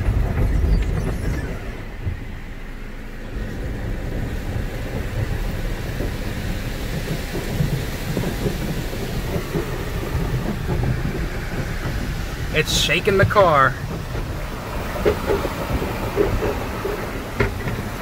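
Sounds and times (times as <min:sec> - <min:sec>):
low rumble: 0:00.0 - 0:18.0
car wash cloth and water spray: 0:00.9 - 0:18.0.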